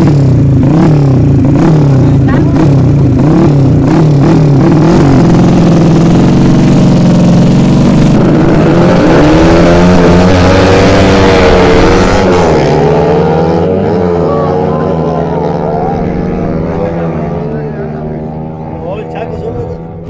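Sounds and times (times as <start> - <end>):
racing motorcycle engine revving: 0.0 - 20.0
second motorcycle engine: 0.0 - 20.0.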